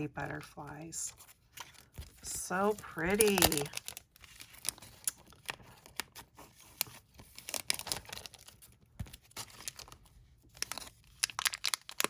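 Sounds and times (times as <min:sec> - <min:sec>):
paper and plastic packaging rustling: 0:00.0 - 0:12.0.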